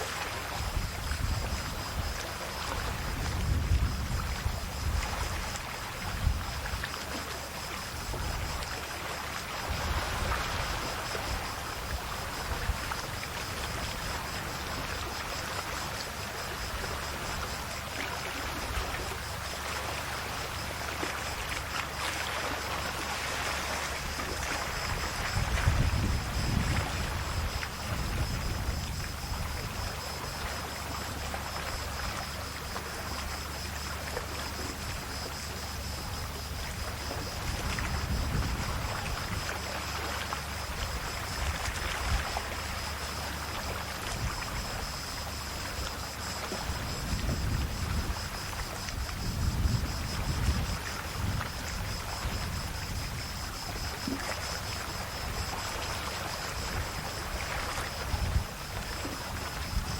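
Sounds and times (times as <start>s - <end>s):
sea waves lapping on shore: 0.0s - 59.9s.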